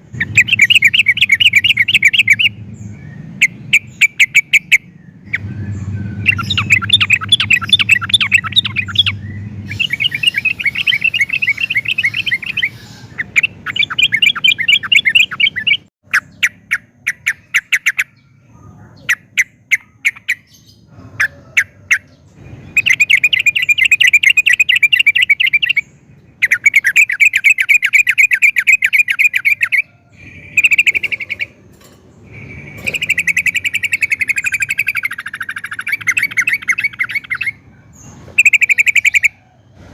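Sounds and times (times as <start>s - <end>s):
bird singing chattering trills: 0.0s - 39.7s.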